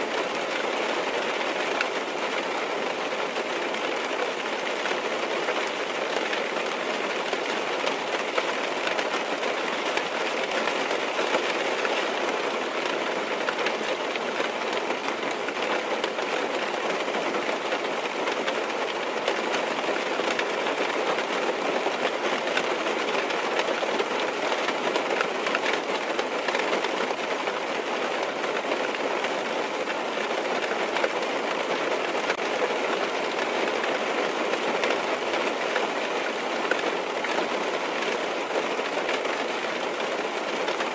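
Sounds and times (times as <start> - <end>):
rain on a car roof: 0.0 - 40.9.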